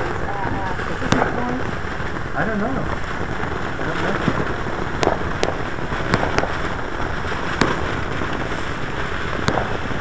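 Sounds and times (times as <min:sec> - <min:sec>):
firework fountain hissing: 0:00.0 - 0:10.0
sharp firework pops: 0:00.0 - 0:10.0.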